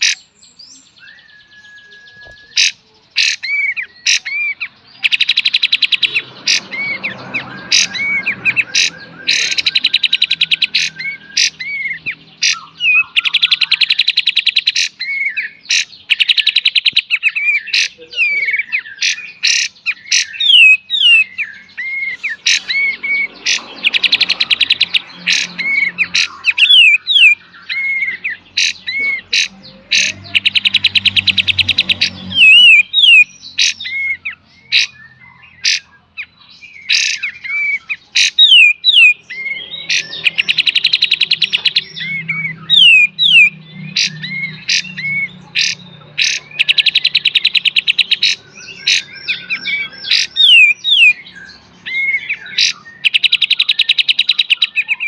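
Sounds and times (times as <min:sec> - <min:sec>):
songbird notes and whistles: 0:00.0 - 0:55.0.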